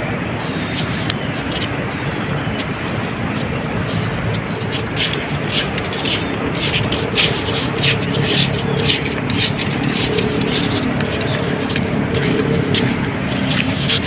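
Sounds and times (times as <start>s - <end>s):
steady rushing background: 0.0s - 14.0s
footsteps on wet sand: 0.4s - 14.0s.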